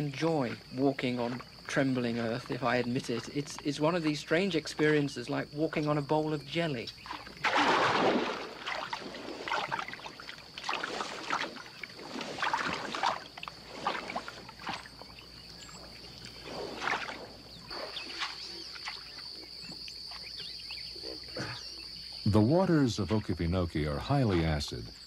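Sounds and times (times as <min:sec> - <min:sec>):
water sloshing and squelching: 0:00.0 - 0:22.2
high insect drone: 0:00.0 - 0:25.0.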